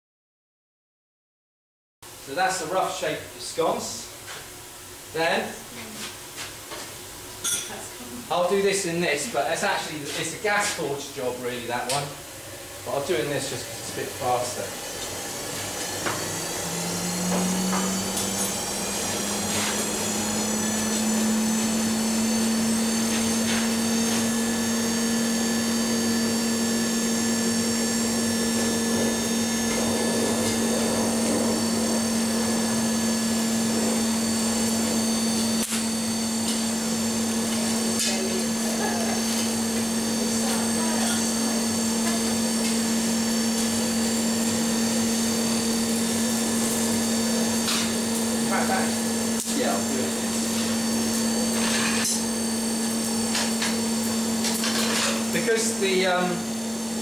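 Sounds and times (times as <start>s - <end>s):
electric blower humming: 7.7s - 57.0s.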